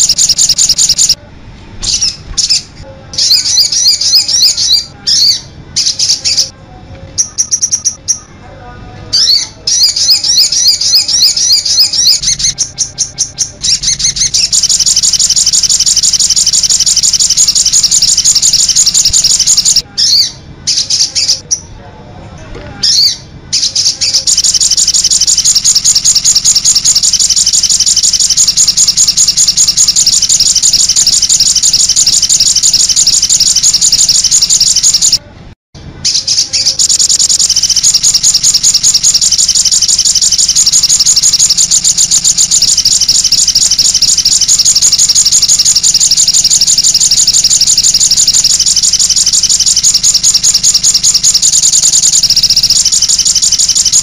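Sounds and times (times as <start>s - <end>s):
bird twittering trill: 0.0s - 1.2s, 1.8s - 6.5s, 7.2s - 8.4s, 9.1s - 21.7s, 22.8s - 35.2s, 36.0s - 54.0s.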